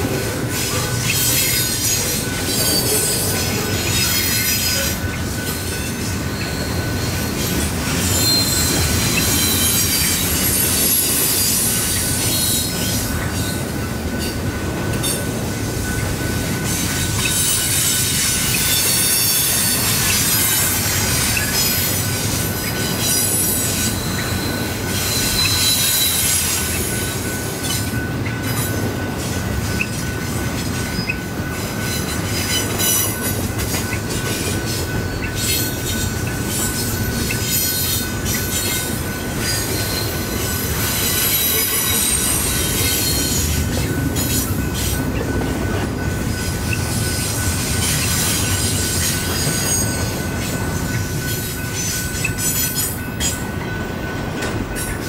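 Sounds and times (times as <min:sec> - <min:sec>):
crossing bell ringing: 0:00.0 - 0:55.0
train wheels squealing and clattering: 0:00.0 - 0:55.0.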